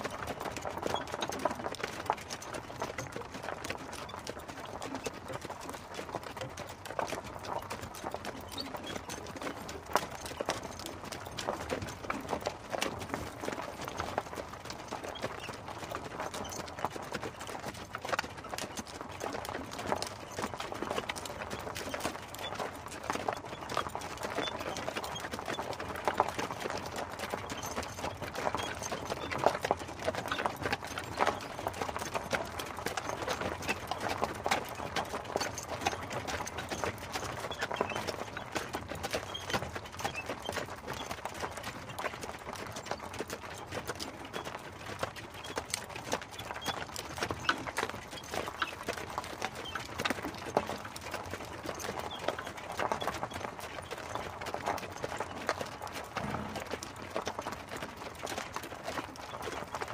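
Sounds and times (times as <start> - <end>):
horse hooves clip-clopping: 0.0 - 59.9.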